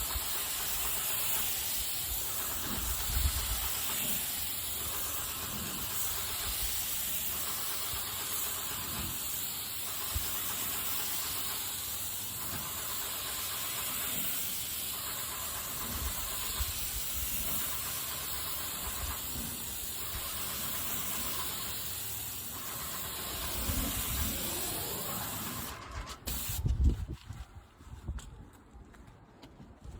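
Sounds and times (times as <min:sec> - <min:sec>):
paint sprayer hissing: 0:00.0 - 0:26.7.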